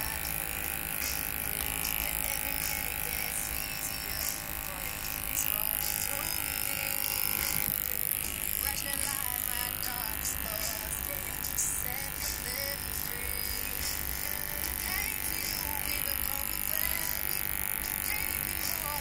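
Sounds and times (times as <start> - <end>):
electric hair clipper buzzing: 0.0 - 19.0.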